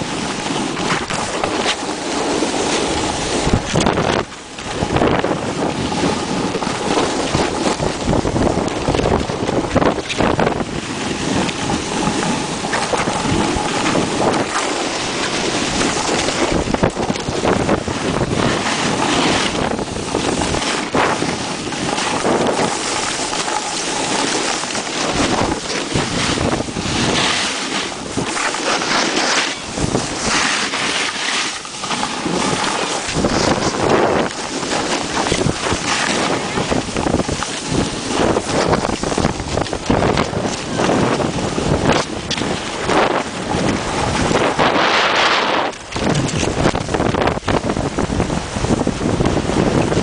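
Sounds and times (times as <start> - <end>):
snowboard scraping over snow: 0.0 - 50.0
wind buffeting microphone: 0.0 - 50.0.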